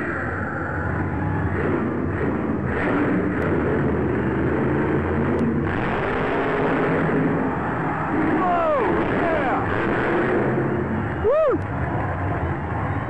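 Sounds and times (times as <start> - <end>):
monster truck engine roaring: 0.0 - 13.0.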